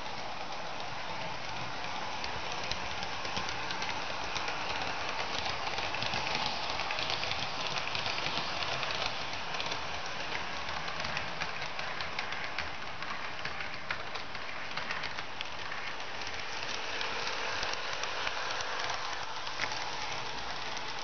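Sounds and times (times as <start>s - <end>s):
model train wheels clicking on rails: 0.0s - 21.0s.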